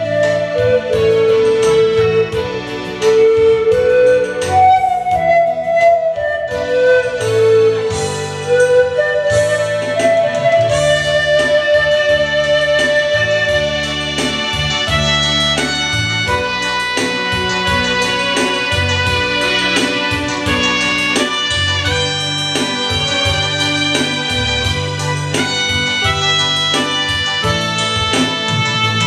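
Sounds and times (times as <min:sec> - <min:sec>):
keyboard and bass chords: 0:00.0 - 0:29.0
pan flute melody: 0:00.0 - 0:29.0.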